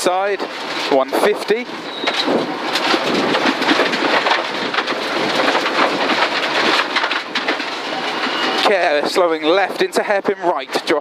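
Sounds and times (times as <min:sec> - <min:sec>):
gravel pelting car underside: 0:00.0 - 0:11.0.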